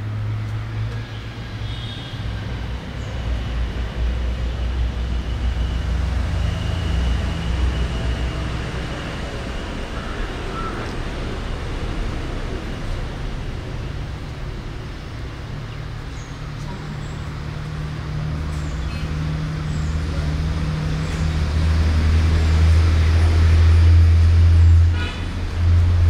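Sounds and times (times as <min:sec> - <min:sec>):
heavy vehicle engine drone: 0:00.0 - 0:26.0.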